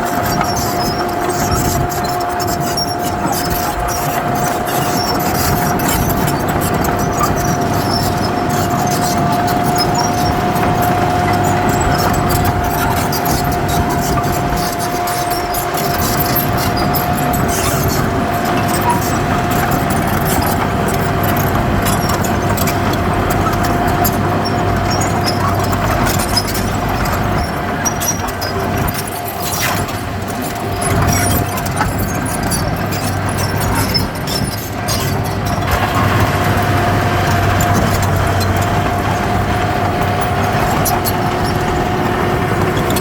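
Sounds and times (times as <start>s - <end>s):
diesel machinery running: 0.0s - 43.0s.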